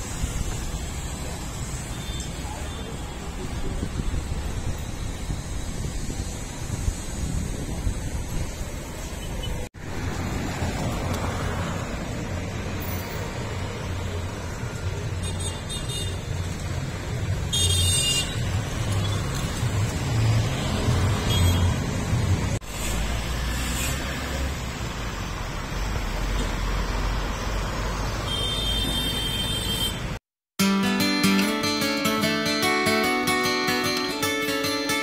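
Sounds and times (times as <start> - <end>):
vehicles passing with engine rumble: 0.0 - 30.2.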